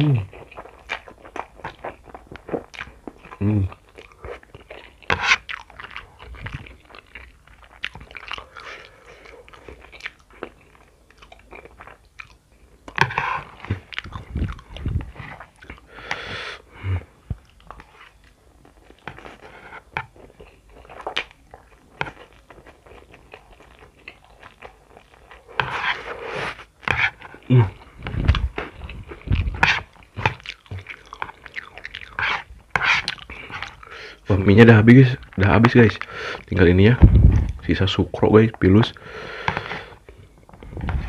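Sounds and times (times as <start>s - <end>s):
chewing and crunching: 0.0s - 41.0s.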